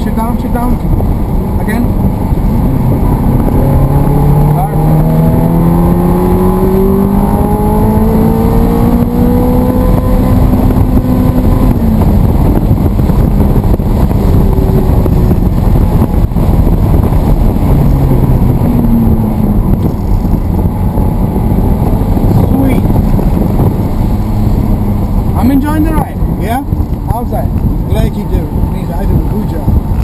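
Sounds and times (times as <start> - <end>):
road and wind noise: 0.0 - 30.0
sports car engine accelerating: 0.0 - 30.0.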